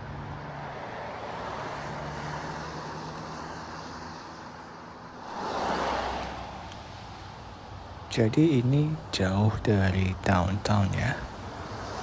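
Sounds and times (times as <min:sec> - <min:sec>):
tyres hissing on wet road: 0:01.2 - 0:12.0.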